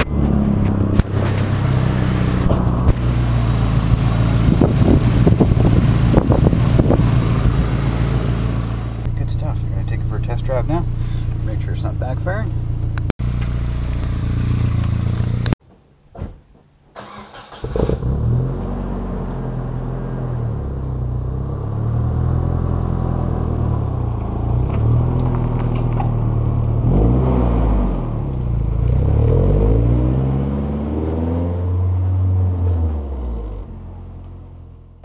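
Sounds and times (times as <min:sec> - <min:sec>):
car engine running and revving: 0:00.0 - 0:15.6, 0:17.8 - 0:35.0.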